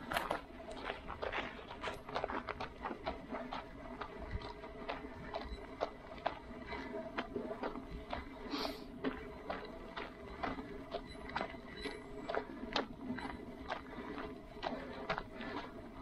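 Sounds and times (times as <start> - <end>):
footsteps on hard ground: 0.0 - 16.0
low steady background noise: 0.0 - 16.0.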